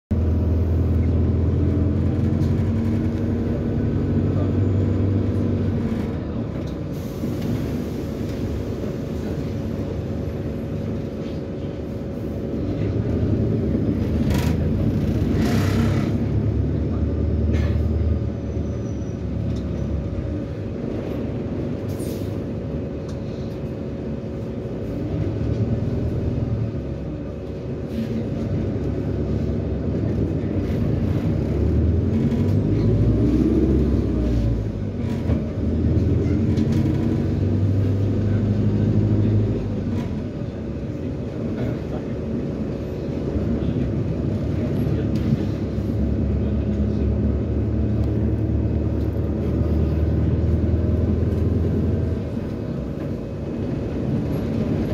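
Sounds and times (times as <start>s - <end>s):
bus diesel engine droning: 0.1s - 54.9s
road rumble: 0.1s - 54.9s.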